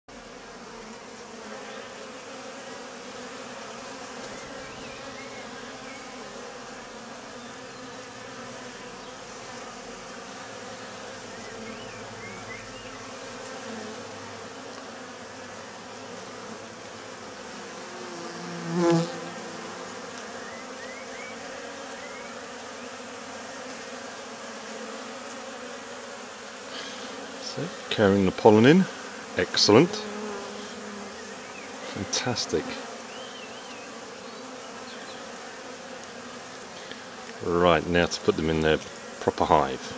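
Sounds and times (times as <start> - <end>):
honeybees buzzing: 0.1 - 39.9.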